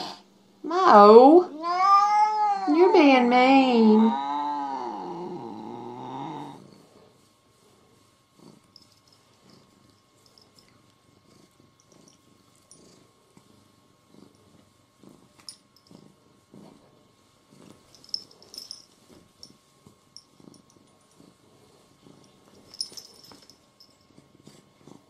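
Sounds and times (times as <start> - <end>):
cat purring: 3.9 - 25.0.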